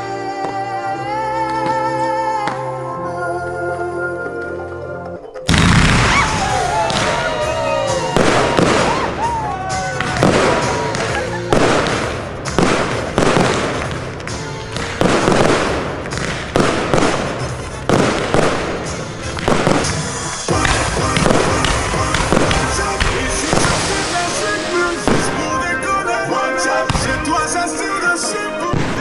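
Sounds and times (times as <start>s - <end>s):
music playing: 0.0s - 29.0s
fireworks bangs and crackling: 5.5s - 29.0s.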